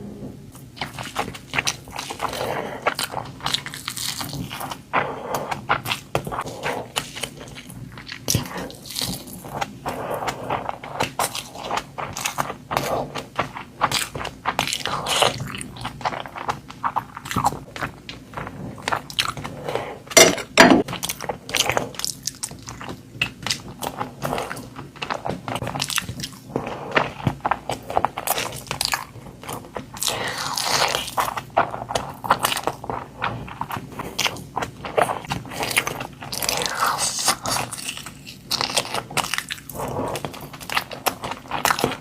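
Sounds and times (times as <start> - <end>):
close chewing and crunching: 0.5 - 42.0.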